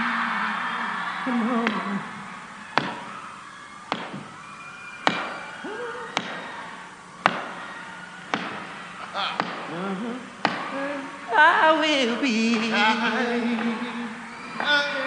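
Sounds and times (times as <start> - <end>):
distant shouts: 0.0 - 11.8, 12.6 - 15.0
faint crowd noise: 0.0 - 15.0.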